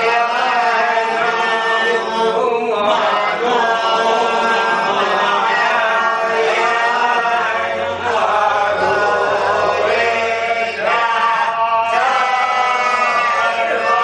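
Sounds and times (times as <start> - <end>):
voices chanting in unison: 0.0 - 14.0.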